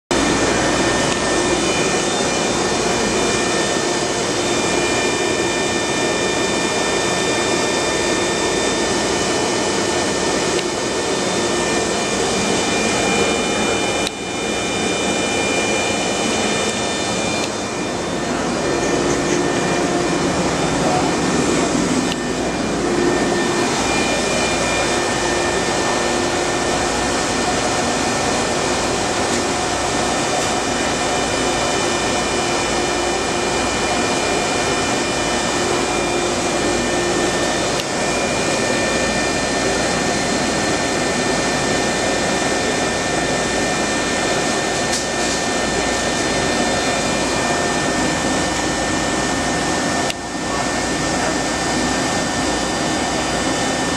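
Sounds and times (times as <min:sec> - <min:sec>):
grinder machine whirring: 0:00.1 - 0:53.9.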